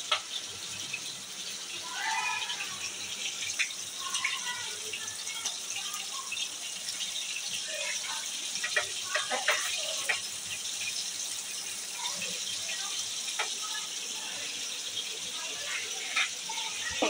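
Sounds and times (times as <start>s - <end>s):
meat sizzling in pan: 0.0s - 17.0s.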